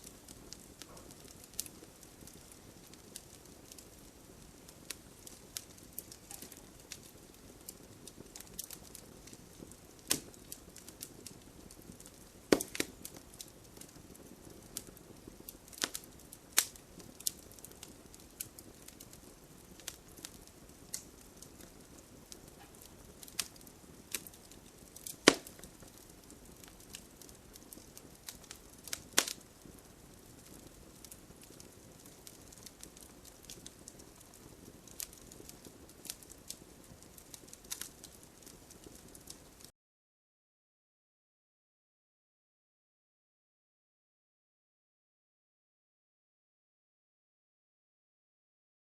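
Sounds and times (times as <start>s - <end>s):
fire hissing: 0.0s - 39.6s
wood crackling and popping: 0.0s - 39.7s.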